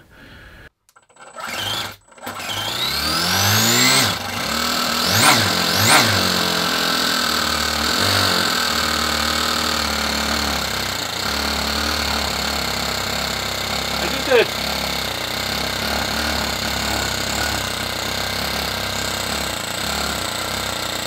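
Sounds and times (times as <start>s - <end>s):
electric starter cranking: 0.9s - 21.0s
model engine running and revving: 1.2s - 21.0s.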